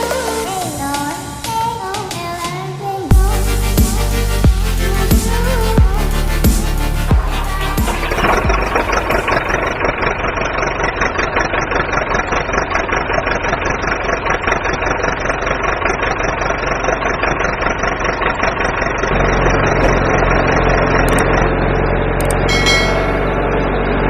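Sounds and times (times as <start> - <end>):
engine idling: 3.1 - 24.0.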